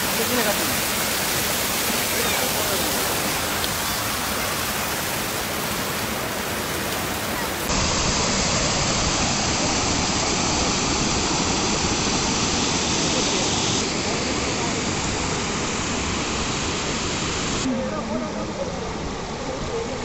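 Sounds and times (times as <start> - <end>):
water rushing over dam: 0.0 - 20.0.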